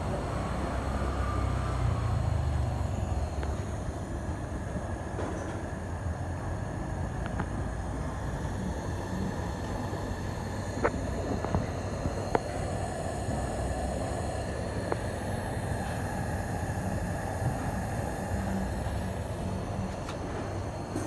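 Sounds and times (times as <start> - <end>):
pressure lantern hissing: 0.0 - 21.0.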